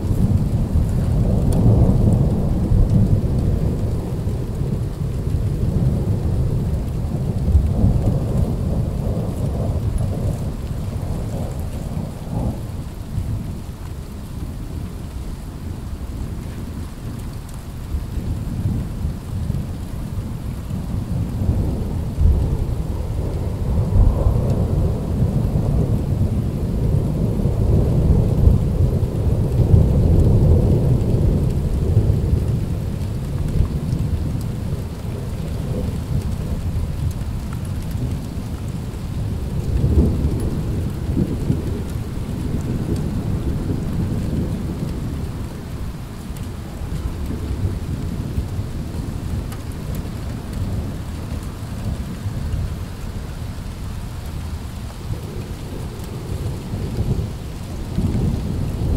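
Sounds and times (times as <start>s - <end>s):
thunder rumbling: 0.0s - 13.6s, 18.2s - 58.9s.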